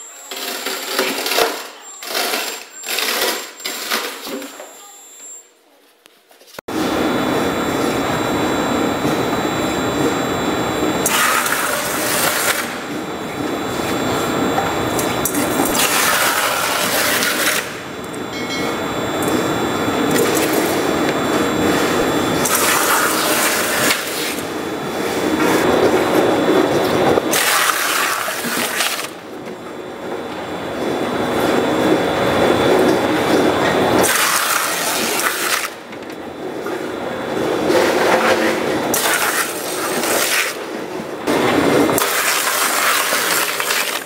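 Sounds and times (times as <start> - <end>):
tire processing machinery: 6.7 - 44.0.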